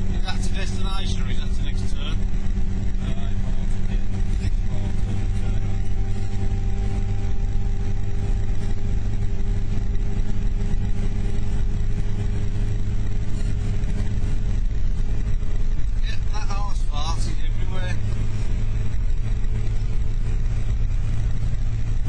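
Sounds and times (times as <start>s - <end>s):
car engine drone: 0.0s - 22.0s
tyre and road noise: 0.0s - 22.0s.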